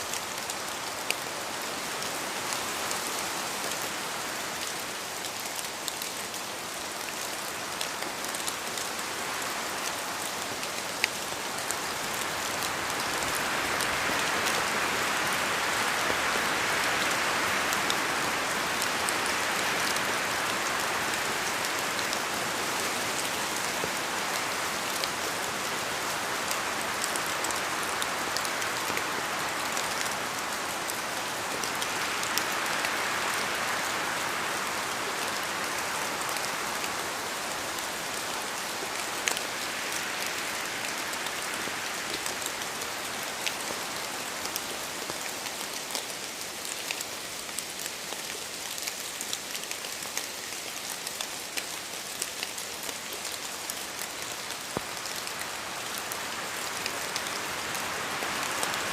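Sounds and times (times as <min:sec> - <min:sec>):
rain falling in forest: 0:00.0 - 0:58.9.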